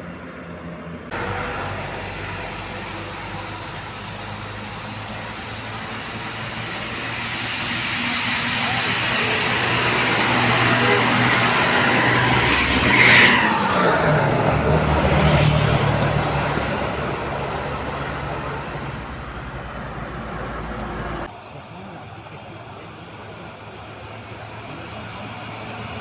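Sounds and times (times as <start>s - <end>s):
bus engine passing uphill: 0.0s - 26.0s.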